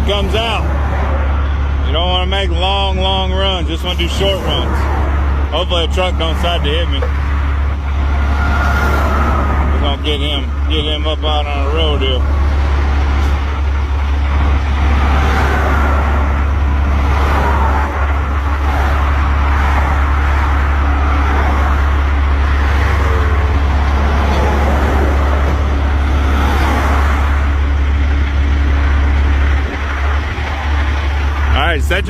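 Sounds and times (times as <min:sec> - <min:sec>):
diesel truck engine droning: 0:00.0 - 0:32.0
faint shifting whines: 0:00.0 - 0:32.0.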